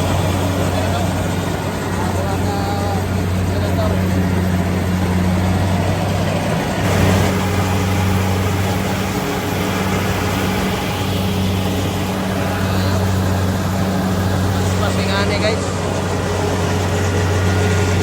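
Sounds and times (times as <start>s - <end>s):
combine harvester engine: 0.0s - 18.0s.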